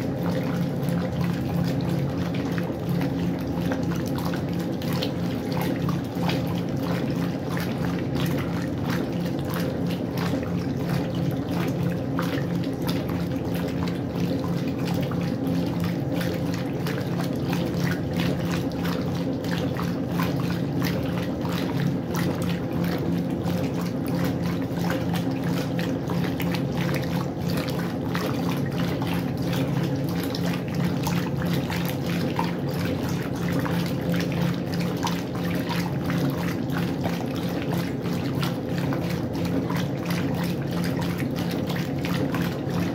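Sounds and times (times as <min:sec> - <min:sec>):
washing machine low hum: 0:00.0 - 0:42.9
water splashing and trickling: 0:00.0 - 0:42.9.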